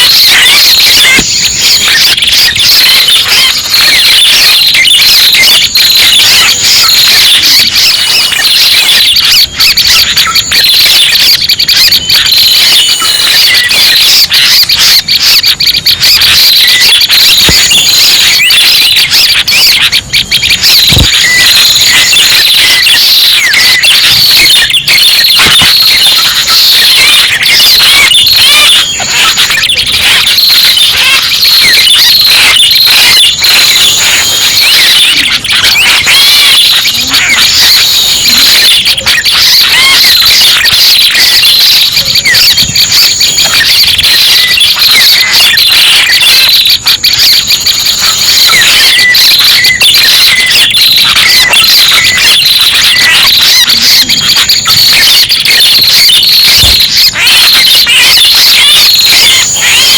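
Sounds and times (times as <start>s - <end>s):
birds chirping high-pitched: 0.0s - 59.9s.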